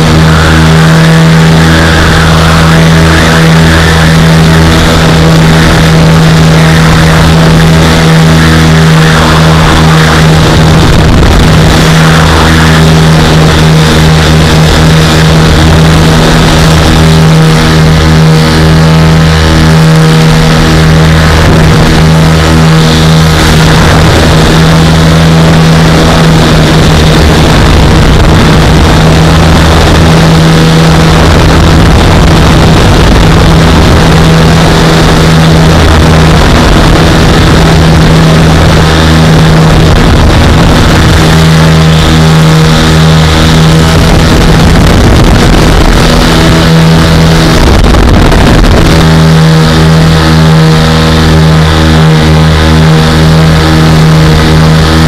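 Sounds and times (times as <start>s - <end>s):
twin aircraft engines running: 0.0s - 55.0s
wind rushing on microphone: 0.0s - 55.0s.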